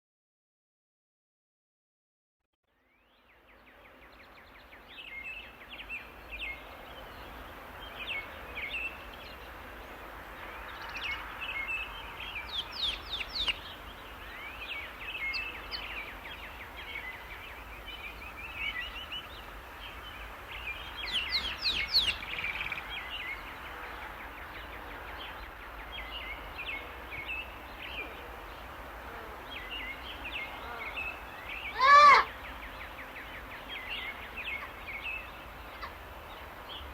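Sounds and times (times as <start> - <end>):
forest birds chirping: 2.7 - 36.9
background hiss: 2.9 - 36.9.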